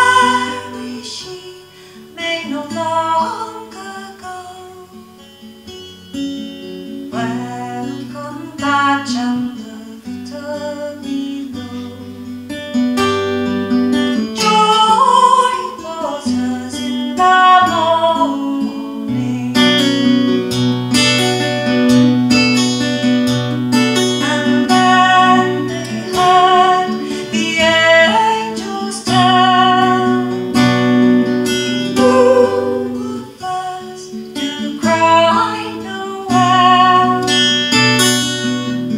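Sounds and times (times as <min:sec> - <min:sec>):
strummed acoustic guitar: 0:00.0 - 0:38.9
woman singing folk song: 0:00.0 - 0:38.9.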